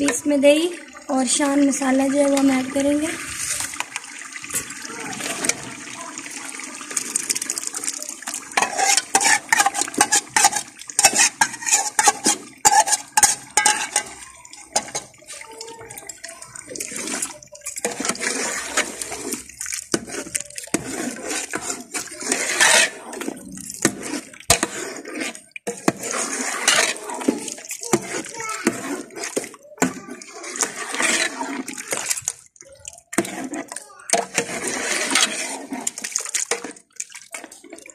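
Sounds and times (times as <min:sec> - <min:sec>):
metal ladle scraping a pot: 0:00.0 - 0:05.8, 0:06.9 - 0:37.9
food sizzling: 0:00.0 - 0:37.8
wet sloshing: 0:00.0 - 0:37.9.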